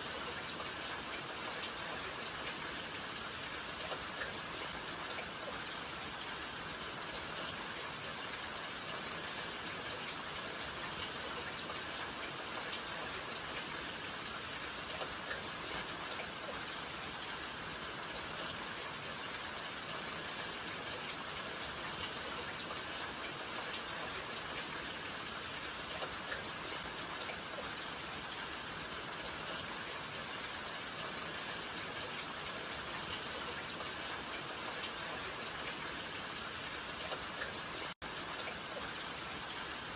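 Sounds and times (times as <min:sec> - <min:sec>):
raindrops pattering on surfaces: 0:00.0 - 0:39.9
steady rain falling: 0:00.0 - 0:39.9.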